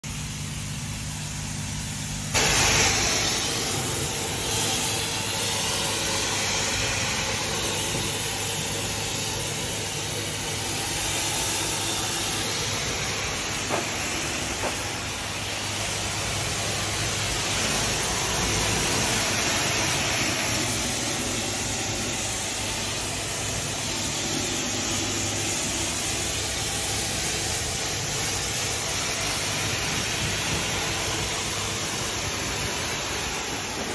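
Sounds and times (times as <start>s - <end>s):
pressure washer spraying water: 0.1s - 33.9s.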